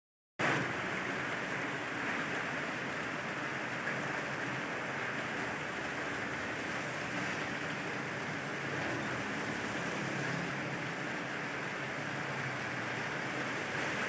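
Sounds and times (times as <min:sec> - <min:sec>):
steady rain hiss: 0:00.4 - 0:14.0.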